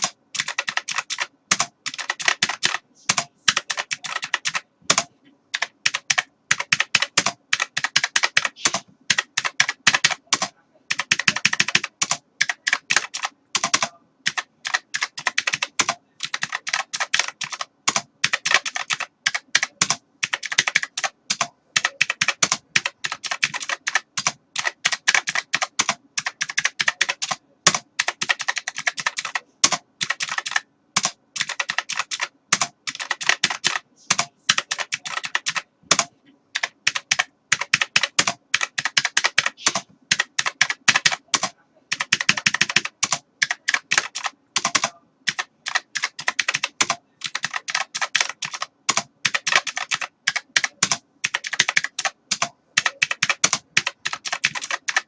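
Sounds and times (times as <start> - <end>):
typing on a computer keyboard: 0.0 - 55.0.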